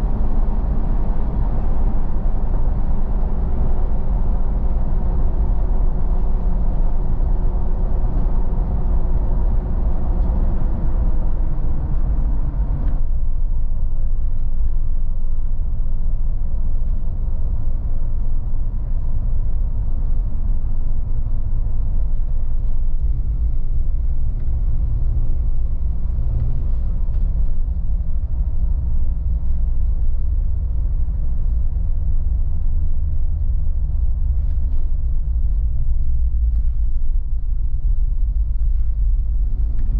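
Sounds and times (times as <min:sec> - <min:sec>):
car engine drone: 0:00.0 - 0:39.9
road and tyre rumble: 0:00.0 - 0:39.9.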